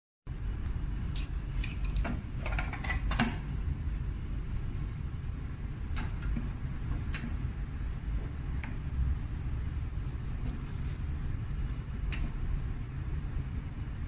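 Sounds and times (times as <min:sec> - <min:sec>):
steady low hum: 0:00.3 - 0:14.0.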